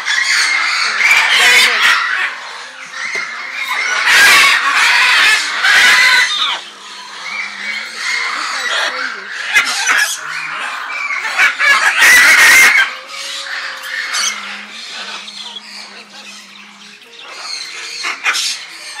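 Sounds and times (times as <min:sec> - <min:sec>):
birds squawking and calling: 0:00.0 - 0:19.0.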